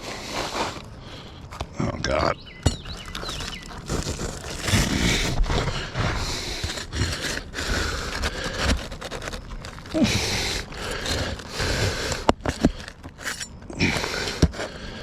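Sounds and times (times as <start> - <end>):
roof shingles scraping: 0.0 - 0.9, 2.4 - 15.0.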